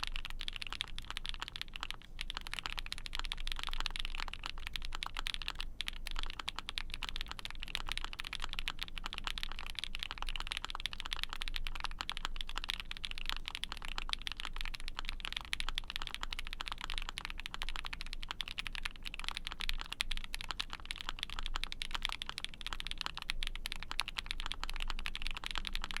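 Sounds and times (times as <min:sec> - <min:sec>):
fast typing on mechanical keyboard: 0:00.0 - 0:26.0.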